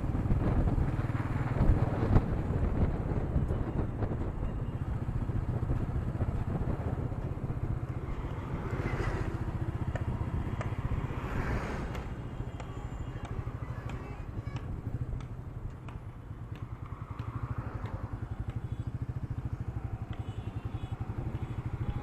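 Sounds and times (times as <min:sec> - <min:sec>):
road and wind rush: 0:00.0 - 0:22.0.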